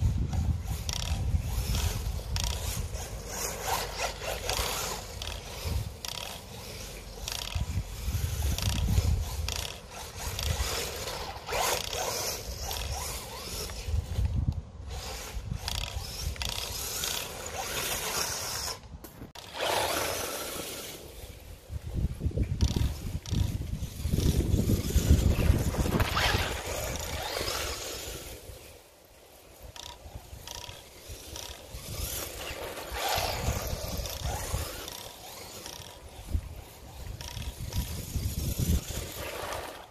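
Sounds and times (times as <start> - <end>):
tyres scraping over loose dirt: 0.0 - 39.9.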